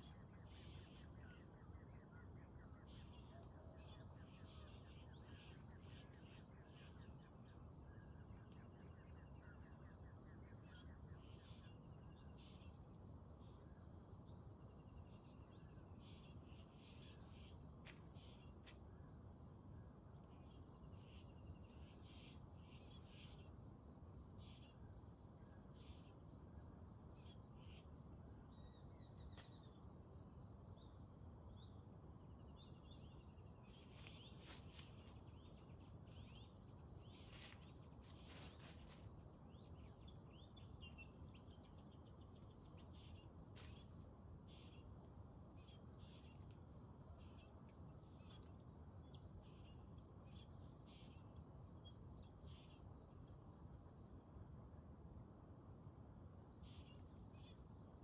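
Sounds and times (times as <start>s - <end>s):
insects trilling: 2.6s - 58.0s.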